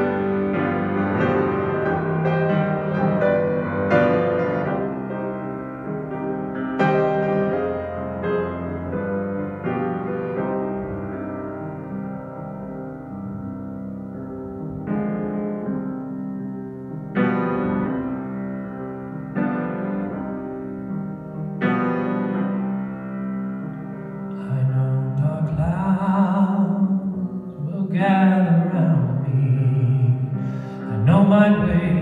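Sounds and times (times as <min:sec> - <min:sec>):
piano playing slow chords: 0:00.0 - 0:32.0
sustained melody with vibrato: 0:00.0 - 0:32.0.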